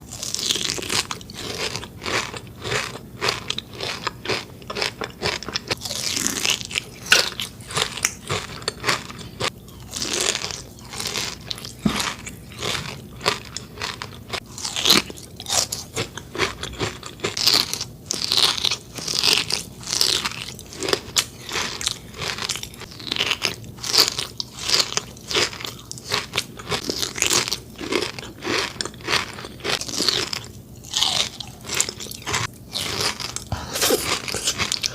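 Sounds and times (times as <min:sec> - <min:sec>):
chocolate bar crunching chewing: 0:00.1 - 0:34.9.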